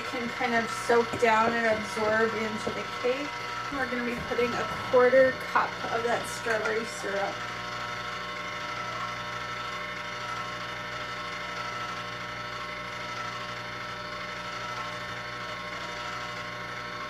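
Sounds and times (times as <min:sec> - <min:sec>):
ice cream maker motor running: 0:00.0 - 0:17.0.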